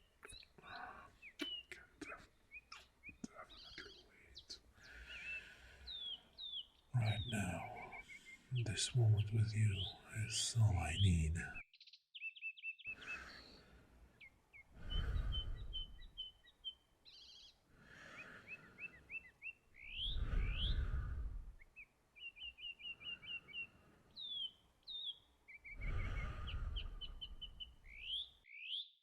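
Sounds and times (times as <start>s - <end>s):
birds chirping and singing: 0.0s - 29.0s.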